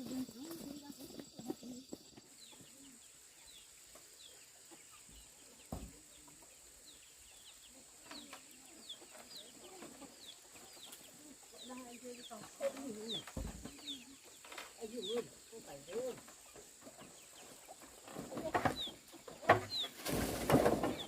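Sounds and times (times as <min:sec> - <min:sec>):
small birds chirping: 0:00.0 - 0:20.2
chickens clucking: 0:00.0 - 0:21.0.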